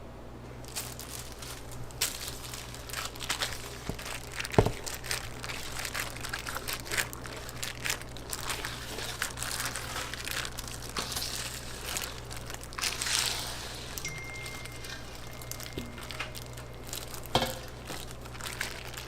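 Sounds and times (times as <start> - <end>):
material crinkling and rustling: 0.5 - 19.0.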